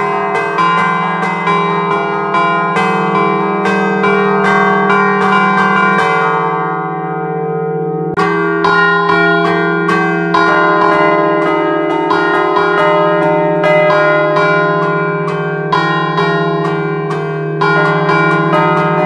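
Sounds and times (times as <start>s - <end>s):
bells ringing on: 0.0s - 19.0s
church bells struck rapidly: 0.0s - 19.0s.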